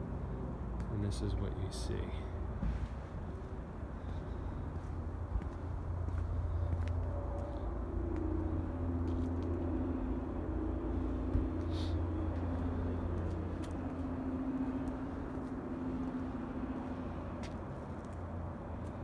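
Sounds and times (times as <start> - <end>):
faint wavering hum: 0.0 - 19.0
low outdoor rumble: 0.0 - 19.0.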